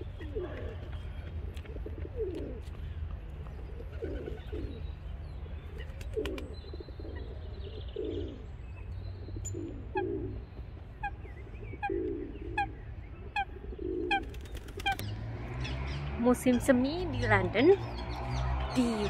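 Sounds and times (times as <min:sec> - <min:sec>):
pigeons cooing: 0:00.0 - 0:02.8, 0:03.6 - 0:04.9, 0:05.7 - 0:08.6, 0:09.2 - 0:19.0.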